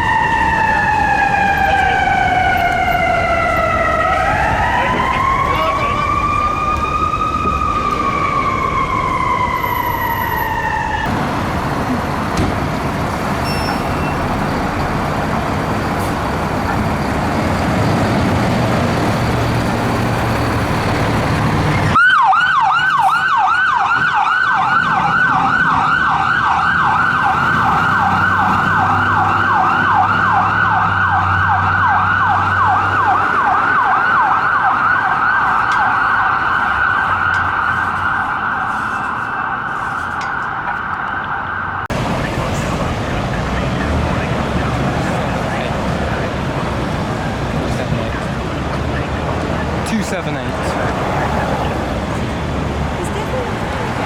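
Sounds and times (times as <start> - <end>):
ambulance siren wailing: 0.0 - 54.0
fire engine diesel engine: 0.0 - 54.0
fire engine siren yelping: 0.0 - 54.0.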